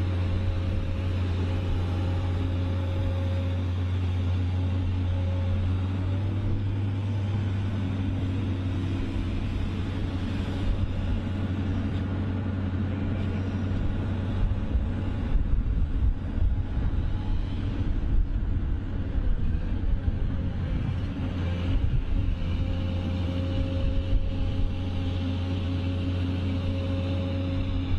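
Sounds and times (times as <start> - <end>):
heavy machine engine running: 0.0 - 27.9.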